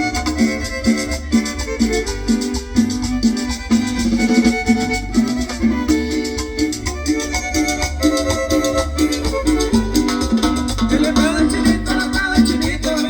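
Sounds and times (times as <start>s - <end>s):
band melody: 0.0s - 13.0s
even percussion beat: 0.0s - 13.0s
repeating bass line: 0.0s - 13.0s.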